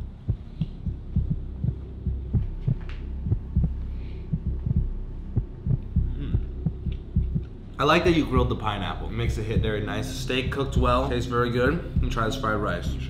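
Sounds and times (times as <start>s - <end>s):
low dull thumps: 0.0s - 13.0s
steady low hum: 0.0s - 13.0s.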